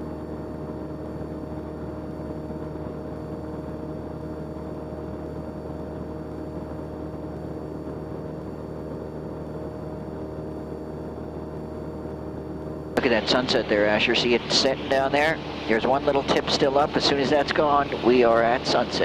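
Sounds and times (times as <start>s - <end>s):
propeller engine drone: 0.0s - 19.0s.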